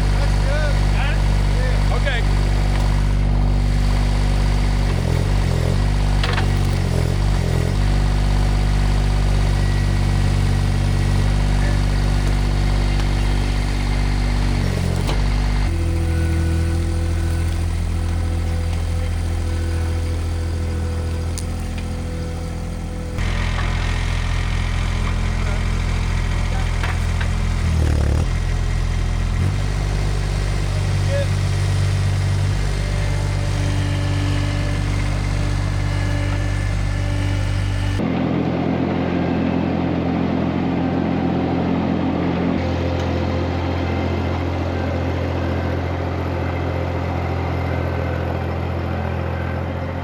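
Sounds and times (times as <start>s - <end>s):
skid steer engine running: 0.0s - 50.0s.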